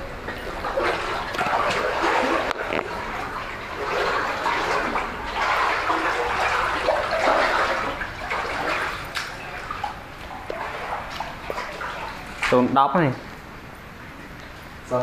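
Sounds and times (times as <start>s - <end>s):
water rushing and splashing: 0.4s - 12.8s.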